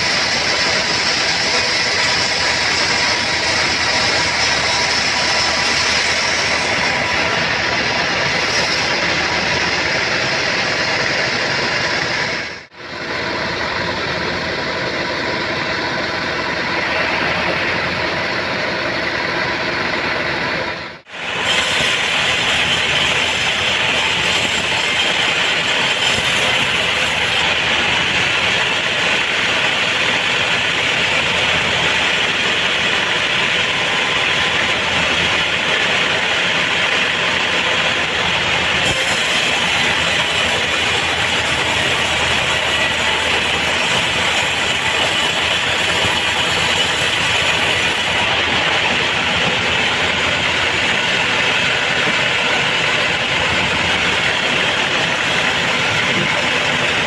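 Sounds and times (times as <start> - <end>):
band sawmill running: 0.0 - 57.0.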